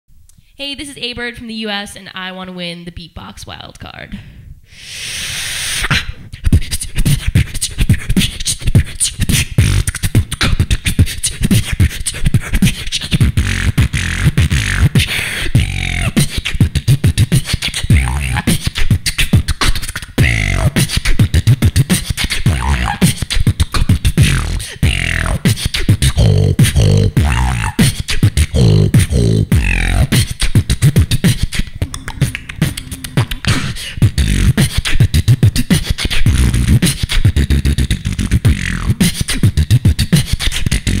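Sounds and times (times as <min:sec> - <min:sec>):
sliding pitched vocal sounds: 0:04.7 - 0:41.0
woman beatboxing: 0:05.0 - 0:41.0.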